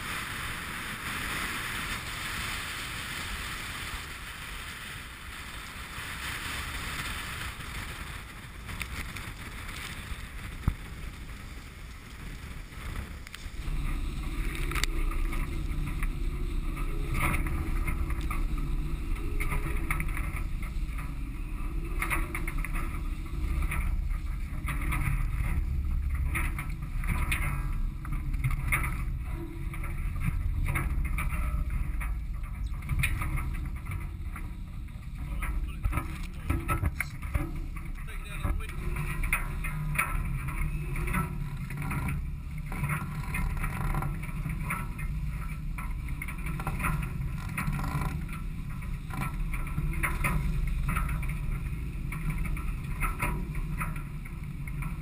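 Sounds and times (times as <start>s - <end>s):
water hissing along hulls: 0.0s - 54.8s
waves slapping hulls: 0.0s - 55.0s
wind buffeting the microphone: 0.0s - 55.0s.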